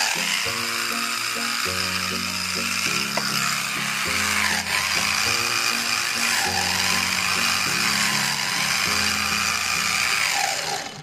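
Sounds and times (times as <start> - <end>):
angle grinder whirring: 0.0 - 11.0.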